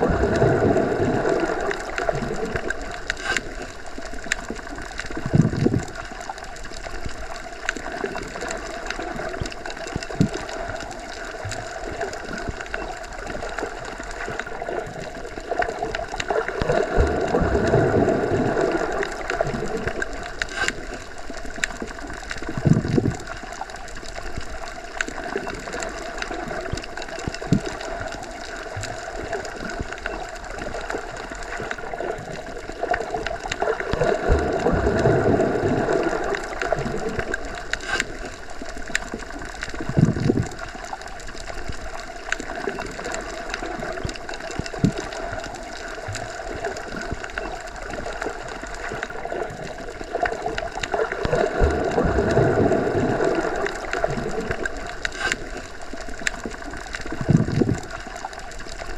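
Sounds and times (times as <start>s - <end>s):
underwater water noise: 0.0s - 58.9s.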